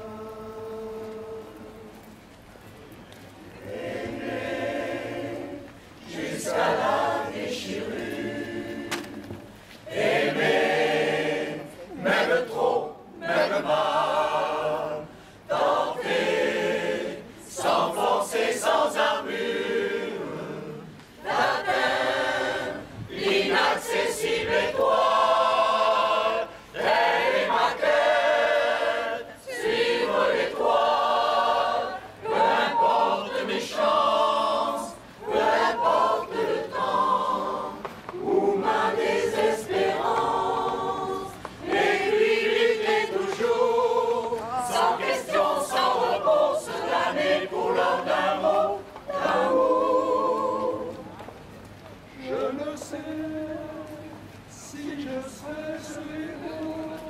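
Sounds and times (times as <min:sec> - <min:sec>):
mixed choir singing a cappella: 0:00.0 - 0:02.0, 0:03.5 - 0:51.2, 0:52.1 - 0:57.0.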